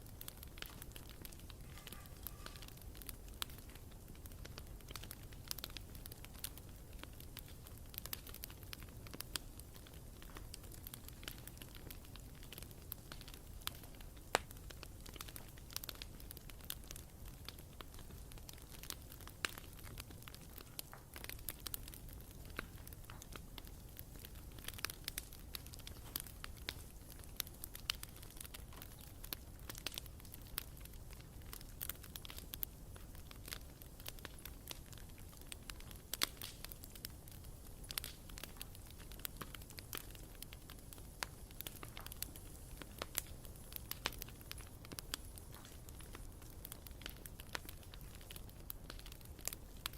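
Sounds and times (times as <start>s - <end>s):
bonfire wood crackling and popping: 0.0s - 49.9s
low rumble of flames: 0.0s - 49.9s.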